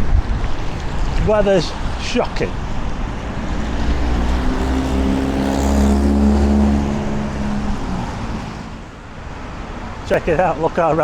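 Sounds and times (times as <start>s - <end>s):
wind rumbling on microphone: 0.0s - 10.1s
vehicle engine humming: 0.1s - 10.4s.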